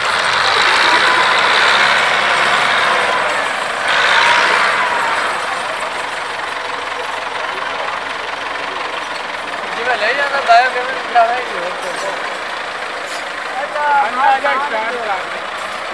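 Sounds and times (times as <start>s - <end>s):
tractor diesel engine revving: 0.0s - 15.9s.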